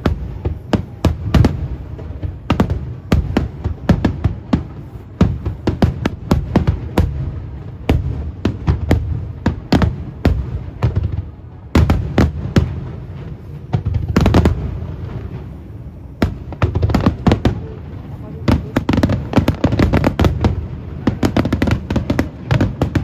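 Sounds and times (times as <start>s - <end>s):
fireworks bursting with sharp bangs: 0.0s - 23.0s.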